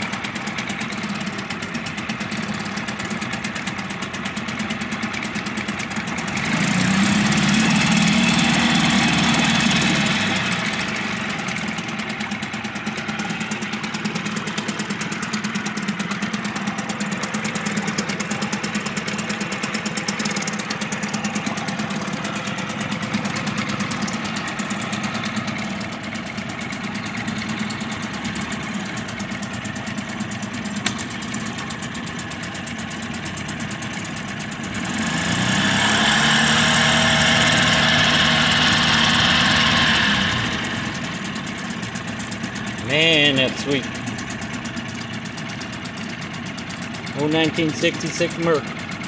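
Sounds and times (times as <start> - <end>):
outboard motor idling and revving: 0.0 - 49.0
propeller churning water: 0.0 - 49.0.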